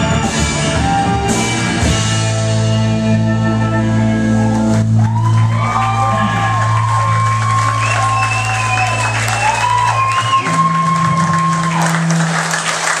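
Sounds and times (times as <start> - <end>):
crowd noise: 0.0 - 13.0
live band music: 0.0 - 13.0.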